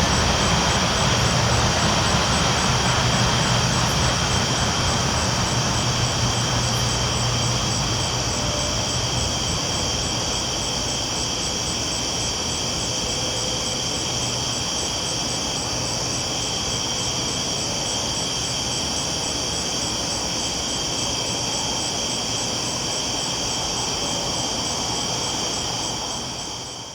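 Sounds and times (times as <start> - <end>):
train rumbling along tracks: 0.0 - 26.9.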